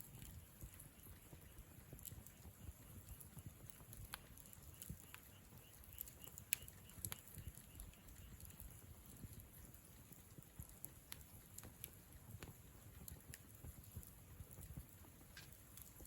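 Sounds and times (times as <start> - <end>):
campfire crackles and pops: 0.0 - 16.0
low flame rumble: 0.0 - 16.0.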